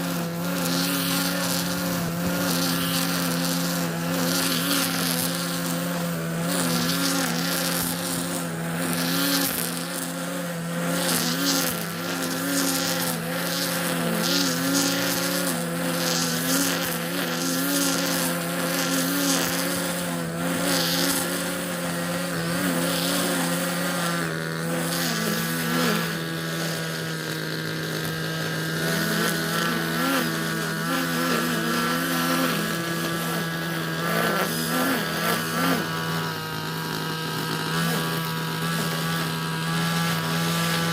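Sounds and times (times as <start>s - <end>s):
petrol grass cutter running: 0.0s - 40.9s.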